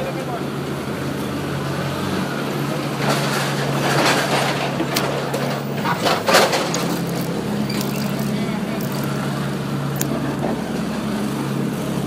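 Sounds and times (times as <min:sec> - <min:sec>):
subway car hum and rumble: 0:00.0 - 0:12.0.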